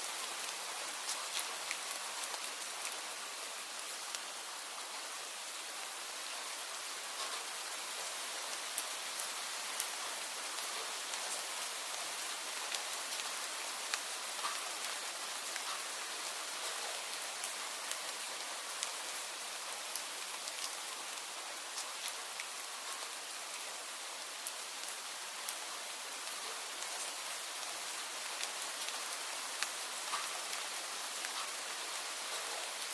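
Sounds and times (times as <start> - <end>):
wind rustling tree leaves: 0.0 - 32.9.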